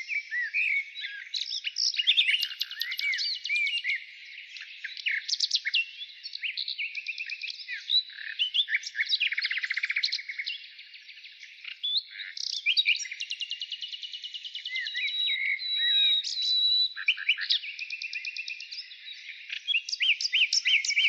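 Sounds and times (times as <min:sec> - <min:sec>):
wild birds chirping and trilling: 0:00.0 - 0:21.0.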